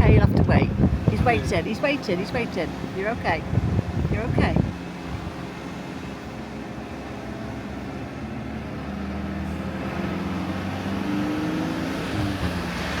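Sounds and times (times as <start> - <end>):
engine pulling uphill: 0.0 - 13.0.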